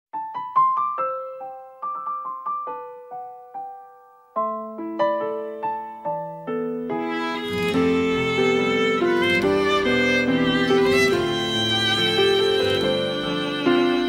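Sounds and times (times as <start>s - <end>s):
slow piano music: 0.1s - 14.0s.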